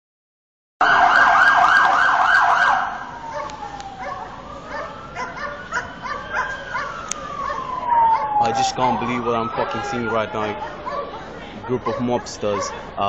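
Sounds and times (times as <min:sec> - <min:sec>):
emergency siren wailing: 0:00.8 - 0:13.0
street noises: 0:00.8 - 0:13.0.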